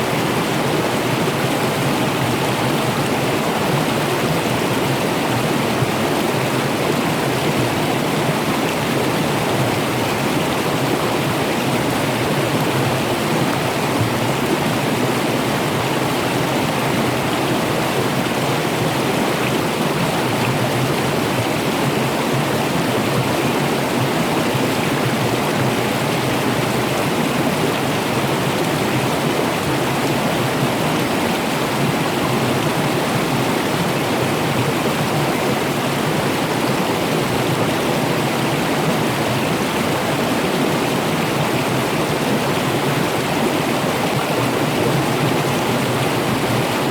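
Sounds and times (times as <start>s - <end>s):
running water: 0.0s - 46.9s.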